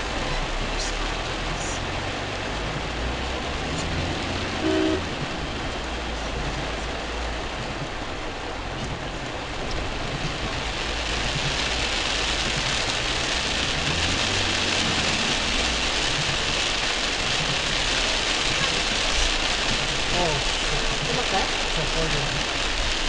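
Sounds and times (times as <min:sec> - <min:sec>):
car engine hum: 0:00.0 - 0:23.0
heavy rain on car roof: 0:00.0 - 0:23.0.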